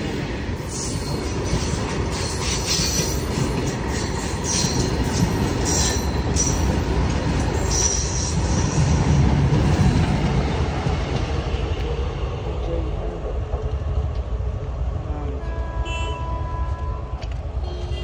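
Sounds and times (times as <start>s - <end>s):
train wagons rumbling on track: 0.0s - 18.0s.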